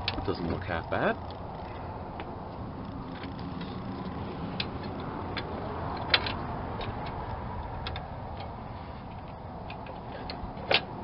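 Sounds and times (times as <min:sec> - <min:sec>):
metal hardware clicks and taps: 0:01.3 - 0:11.0.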